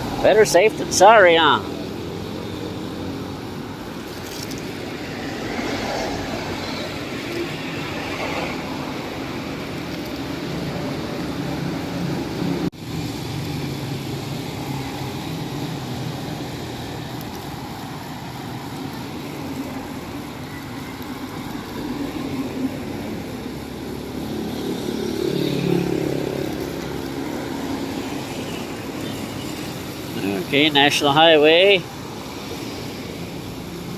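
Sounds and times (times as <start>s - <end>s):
vehicle road and engine noise: 0.0s - 33.9s.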